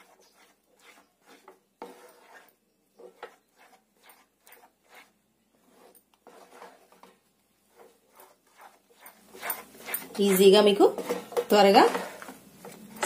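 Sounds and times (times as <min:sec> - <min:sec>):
spatula scraping nonstick pan: 0:00.0 - 0:13.0.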